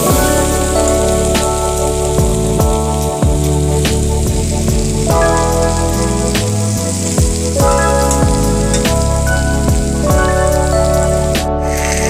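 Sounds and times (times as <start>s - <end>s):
instrumental music with beat: 0.0s - 12.0s
oil sizzling in a pan: 0.0s - 12.0s.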